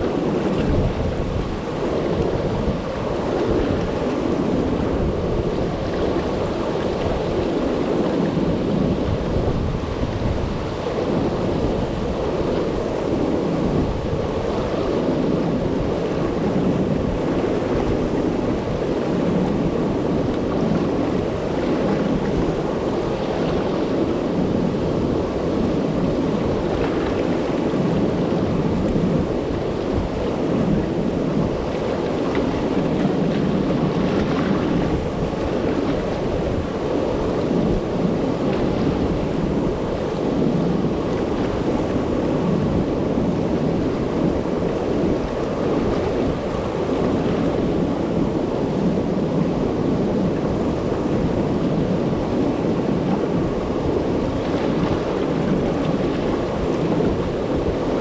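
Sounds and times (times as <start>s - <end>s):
river water rushing over dam: 0.0s - 58.0s.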